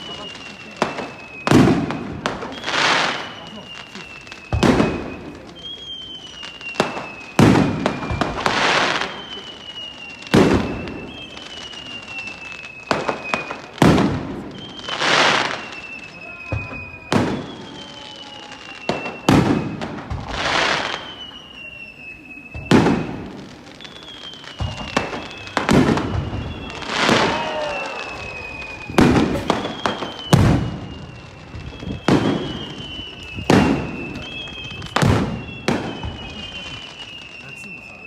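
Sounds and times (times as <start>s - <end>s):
firework bangs: 0.0s - 38.0s
firework crackling: 0.0s - 38.0s
firework whistles falling in pitch: 0.0s - 38.0s.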